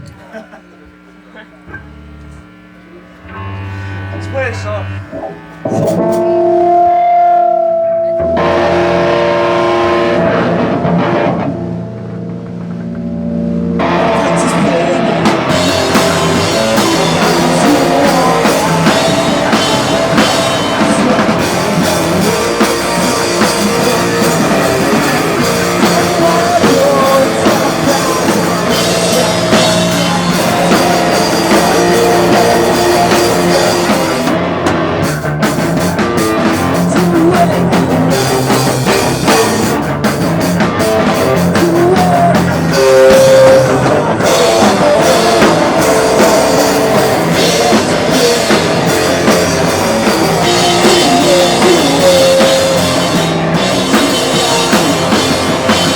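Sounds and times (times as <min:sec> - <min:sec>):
electric guitar chords: 0:00.0 - 0:55.9
live rock band playing: 0:01.7 - 0:55.9.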